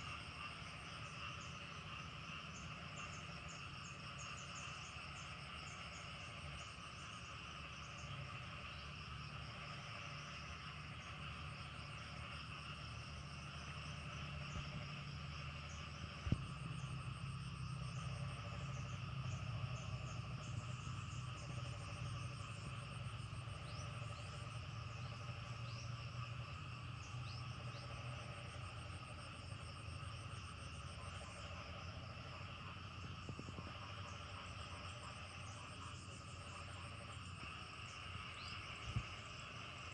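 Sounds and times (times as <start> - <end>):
crickets and insects chirping: 0.0 - 39.9
frogs calling: 0.0 - 39.9.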